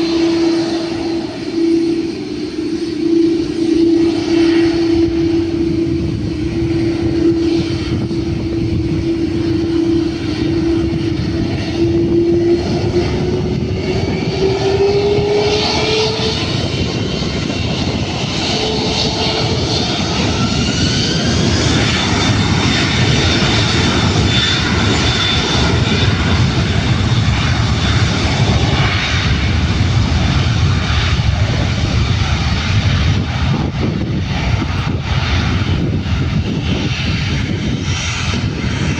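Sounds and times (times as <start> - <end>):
jet engines spooling up: 0.0 - 38.9.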